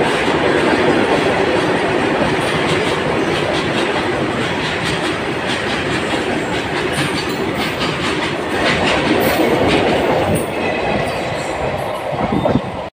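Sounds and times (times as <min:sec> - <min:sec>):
clickety-clack over rail joints: 0:00.0 - 0:12.9
train wheels rumbling on rail: 0:00.0 - 0:12.9.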